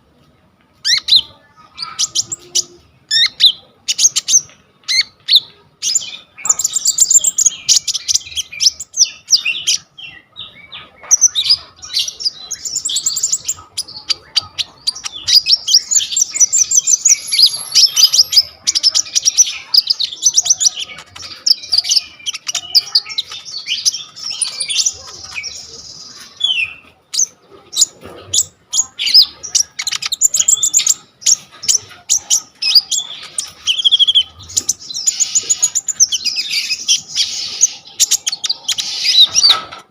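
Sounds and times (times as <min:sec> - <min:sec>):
songbird singing chattering song: 0:00.0 - 0:39.9.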